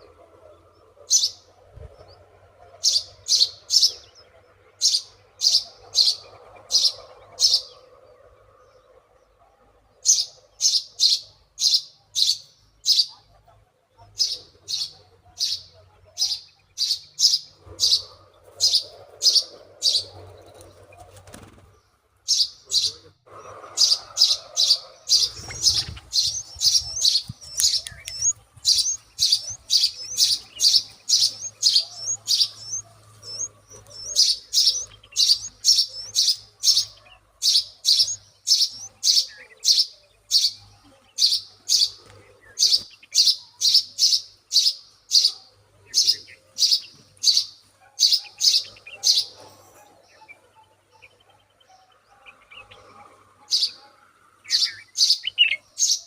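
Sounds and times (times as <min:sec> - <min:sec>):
baby birds begging chirps: 0:00.0 - 0:56.0.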